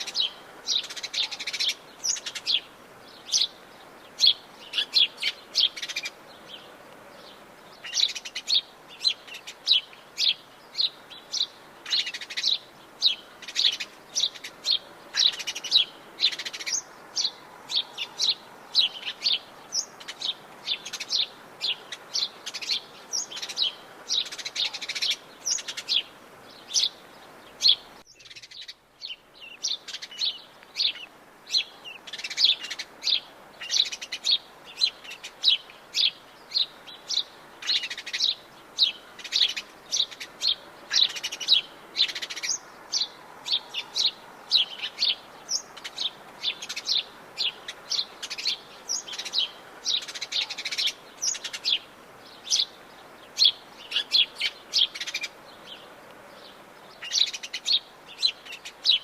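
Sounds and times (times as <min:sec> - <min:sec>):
birds chirping: 0:00.0 - 0:59.0
faint steady hiss: 0:00.0 - 0:59.0.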